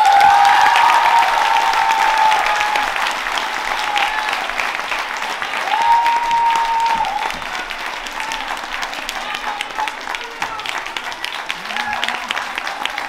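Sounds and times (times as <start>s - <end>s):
audience applauding and cheering: 0.0s - 13.0s
long high-pitched cheer: 0.0s - 13.0s.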